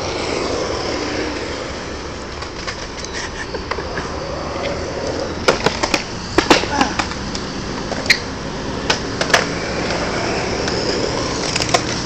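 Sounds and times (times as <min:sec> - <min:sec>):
skateboard wheels rolling on concrete: 0:00.0 - 0:12.0.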